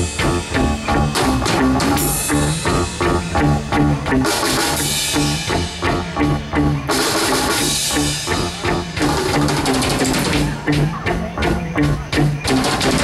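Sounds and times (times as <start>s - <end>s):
cymbals: 0.0s - 13.0s
rock band playing: 0.0s - 13.0s.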